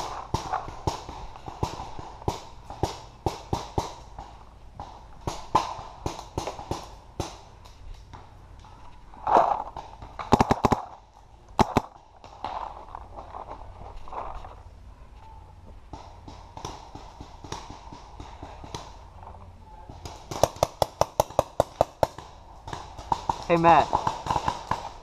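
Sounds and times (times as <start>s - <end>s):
paintball markers firing: 0.0s - 11.0s, 11.6s - 12.8s, 15.9s - 19.1s, 19.8s - 25.0s.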